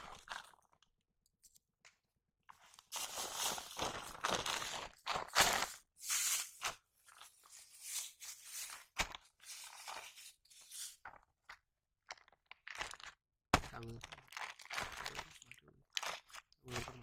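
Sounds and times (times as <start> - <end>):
hands kneading bait on plastic sack: 0.0 - 0.9, 2.5 - 17.0.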